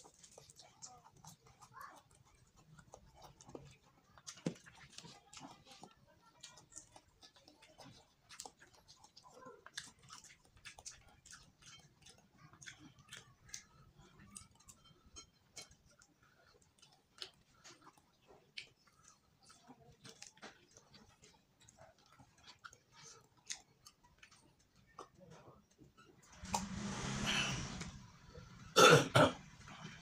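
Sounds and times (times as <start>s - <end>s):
quiet chewing: 0.0s - 27.2s, 29.4s - 30.0s.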